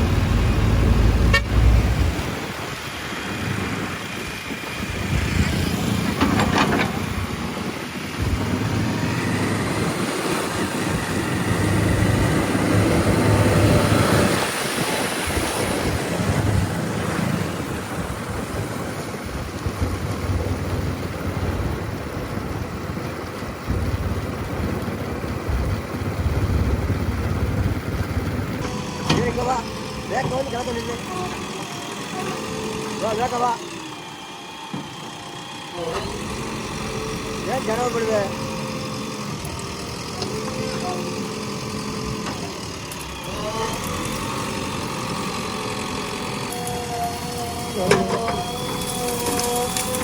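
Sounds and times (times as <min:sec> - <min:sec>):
diesel engine under load: 0:00.0 - 0:50.0.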